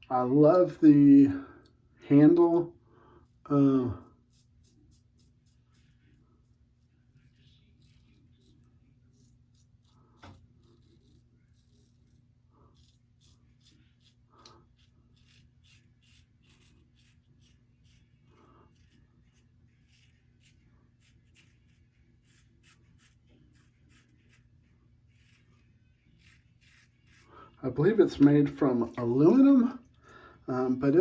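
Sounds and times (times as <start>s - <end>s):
faint low hum: 0.0s - 31.0s
razor scraping stubble: 3.2s - 30.1s.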